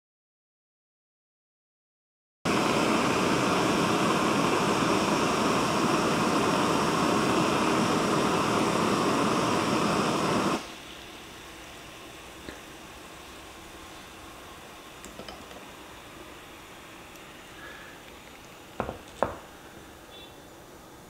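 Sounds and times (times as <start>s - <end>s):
gas stove burner hissing: 2.5s - 21.0s.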